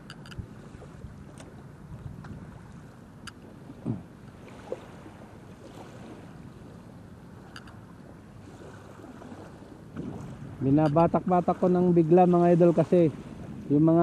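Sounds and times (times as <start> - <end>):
water lapping at shoreline: 0.0 - 14.0.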